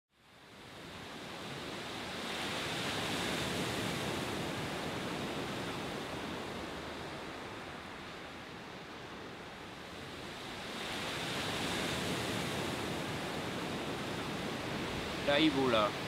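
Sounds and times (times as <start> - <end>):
sea surf breaking on shore: 0.6 - 16.0.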